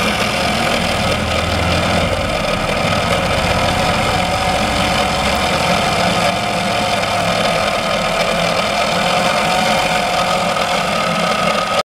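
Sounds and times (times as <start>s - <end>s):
faint motor hum: 0.0s - 11.8s
model steam engine whirring: 0.0s - 11.8s.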